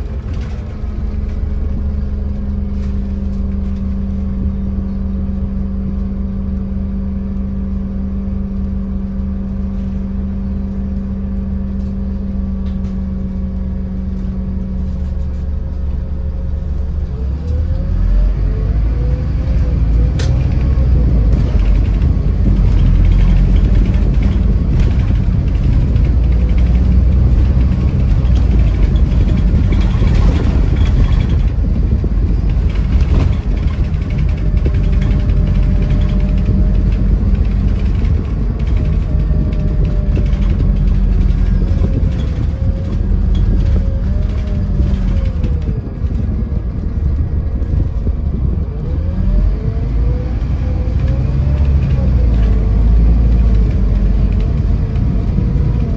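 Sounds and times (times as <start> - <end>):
coach engine and road rumble: 0.0 - 55.9.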